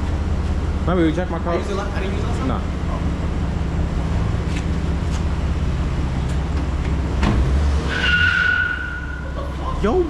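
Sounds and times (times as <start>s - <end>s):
car engine drone: 0.0s - 10.0s.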